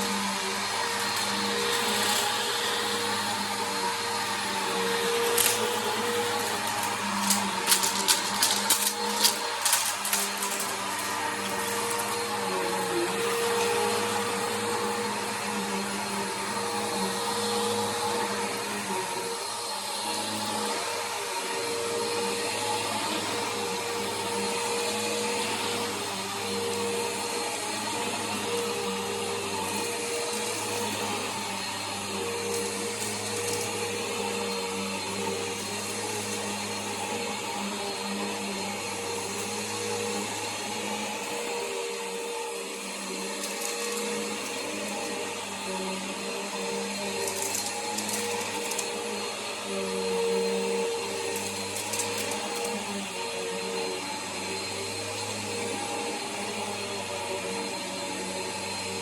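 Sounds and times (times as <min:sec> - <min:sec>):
upright vacuum cleaner running: 0:00.0 - 0:59.0.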